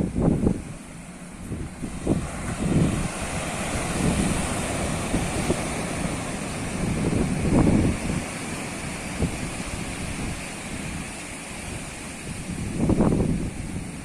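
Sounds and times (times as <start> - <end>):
ocean waves rushing: 0.0 - 14.0
wind buffeting microphone: 0.0 - 14.0.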